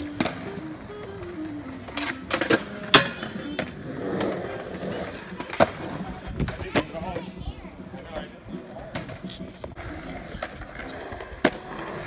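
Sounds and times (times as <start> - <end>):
skateboard clacking on ground: 0.0 - 12.0
skateboard wheels rolling on concrete: 0.0 - 12.0.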